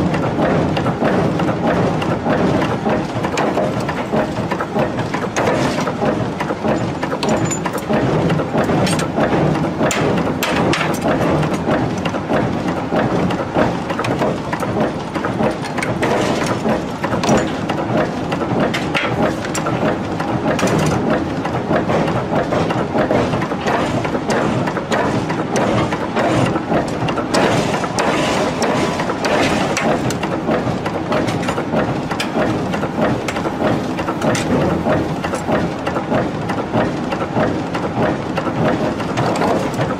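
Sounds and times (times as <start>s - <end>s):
forging presses clattering: 0.0s - 39.9s.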